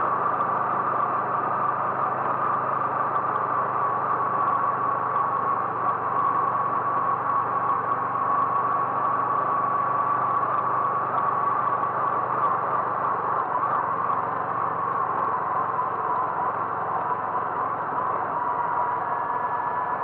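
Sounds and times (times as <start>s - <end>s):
travel noise: 0.0s - 20.0s
vehicle engine hum: 0.0s - 20.0s.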